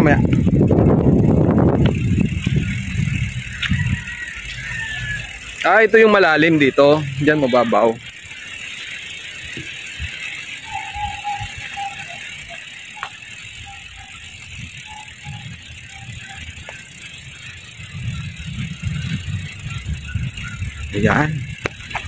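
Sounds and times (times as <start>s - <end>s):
bicycle freewheel ticking: 0.0s - 22.0s.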